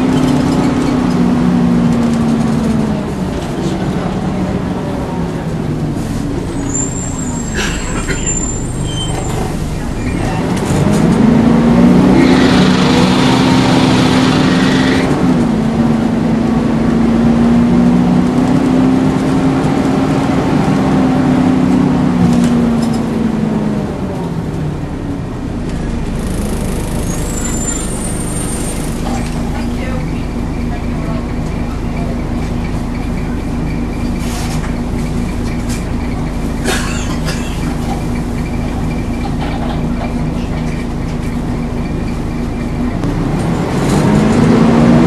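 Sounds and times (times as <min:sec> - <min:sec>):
bus engine running: 0:00.0 - 0:45.0.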